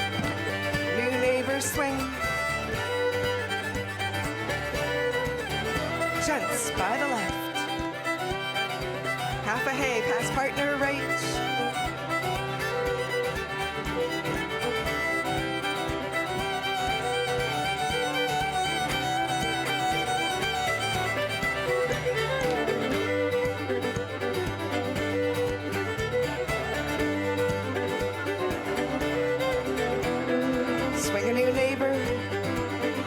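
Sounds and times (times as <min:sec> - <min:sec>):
fiddles playing dance tune: 0:00.0 - 0:33.0
guitar: 0:00.0 - 0:33.0.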